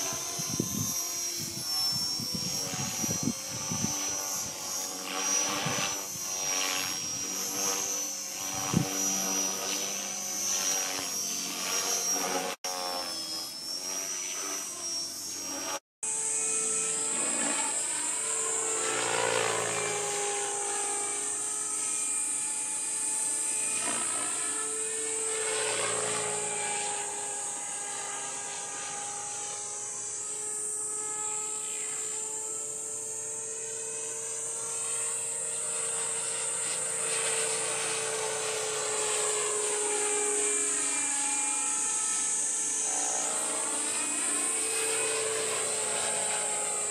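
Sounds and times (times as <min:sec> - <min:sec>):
model helicopter motor whine: 0:00.0 - 0:46.9.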